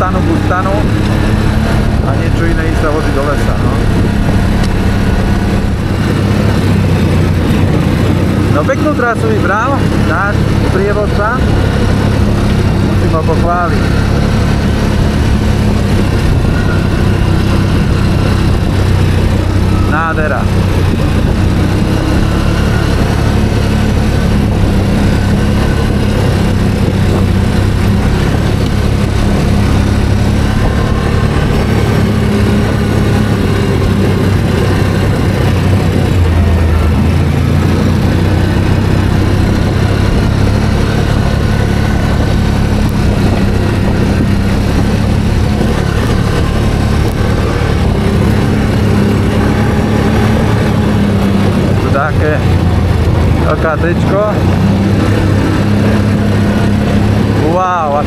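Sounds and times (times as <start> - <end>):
quad bike engine droning: 0.0 - 58.0.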